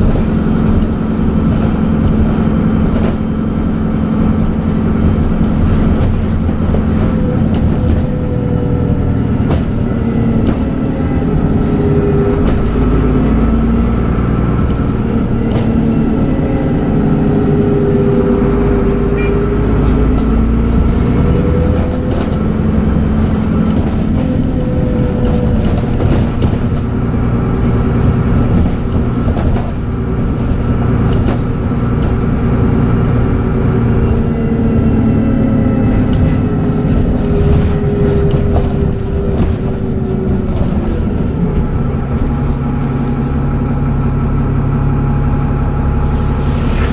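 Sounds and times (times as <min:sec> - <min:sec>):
bus engine running: 0:00.0 - 0:46.9.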